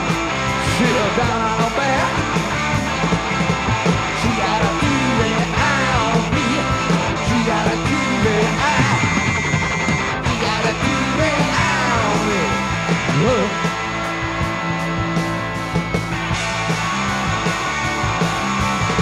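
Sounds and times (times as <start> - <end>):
punk rock band playing: 0.0 - 19.0
steady drum beat: 0.0 - 19.0.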